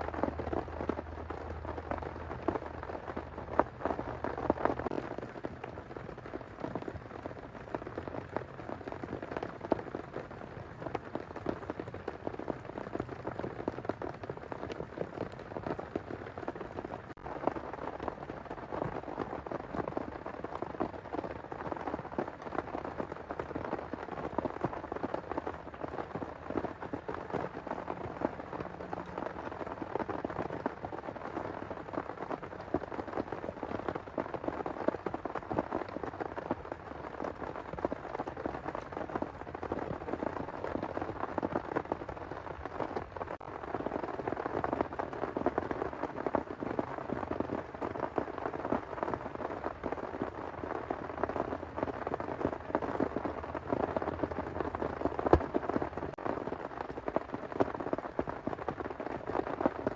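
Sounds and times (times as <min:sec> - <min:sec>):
heavy rain on a surface: 0:00.0 - 0:59.9.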